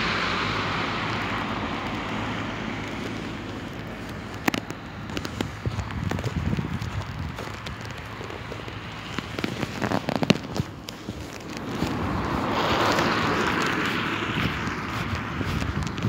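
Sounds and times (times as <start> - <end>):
footsteps crunching in snow: 0.9 - 16.0.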